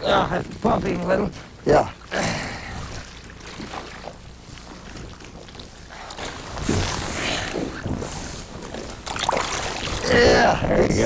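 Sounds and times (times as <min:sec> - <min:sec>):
water noise around boat: 0:00.0 - 0:11.0.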